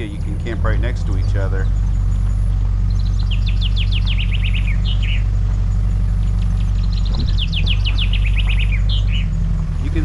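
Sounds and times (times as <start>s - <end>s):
songbird singing: 0.0s - 10.0s
truck rumbling on gravel road: 0.0s - 10.0s.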